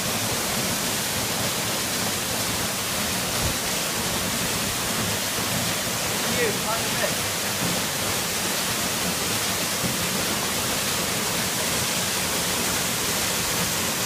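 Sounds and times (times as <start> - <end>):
waterfall splashing: 0.0 - 14.0.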